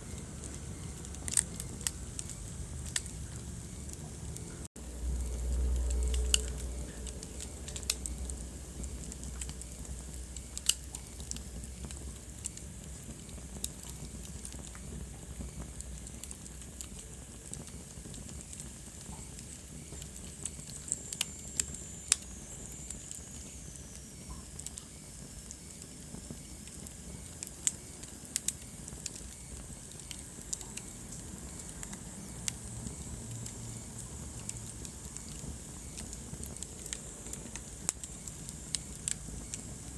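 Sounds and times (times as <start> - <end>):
crackles and pops of burning logs: 0.0 - 39.9
fire flame rumble: 0.0 - 39.9.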